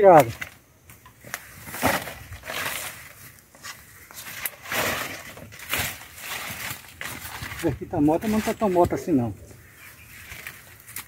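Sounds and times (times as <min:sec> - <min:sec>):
dry mulch rustling and crackling: 0:00.0 - 0:11.0.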